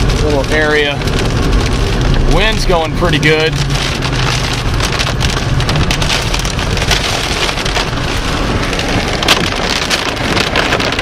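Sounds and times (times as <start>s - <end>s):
heavy rain hitting a vehicle: 0.0s - 11.0s
low wind rumble: 0.0s - 11.0s.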